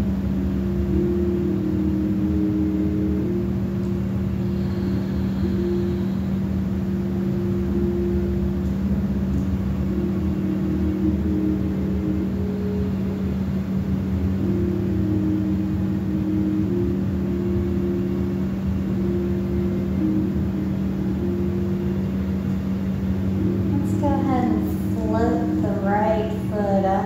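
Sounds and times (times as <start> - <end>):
ambient drone music: 0.0 - 27.0.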